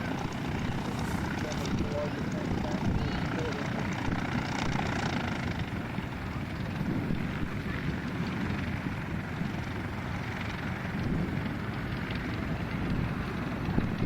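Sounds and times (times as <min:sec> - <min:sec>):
propeller aircraft engine running: 0:00.0 - 0:14.0.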